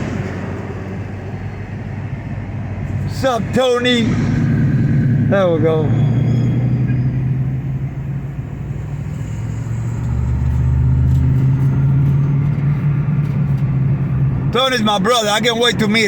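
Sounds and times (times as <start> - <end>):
car engine: 0.0 - 16.0
road noise: 0.0 - 16.0.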